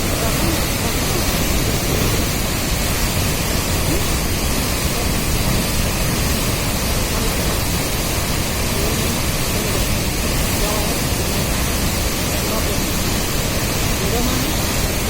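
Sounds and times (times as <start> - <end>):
rushing white water: 0.0 - 15.0.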